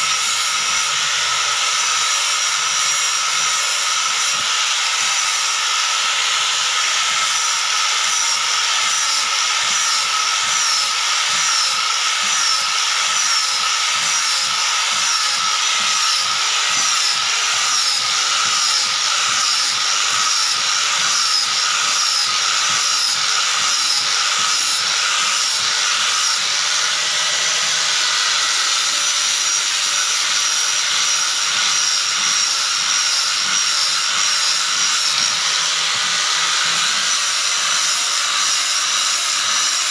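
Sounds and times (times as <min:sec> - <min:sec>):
angle grinder sanding wood: 0:00.0 - 0:39.9.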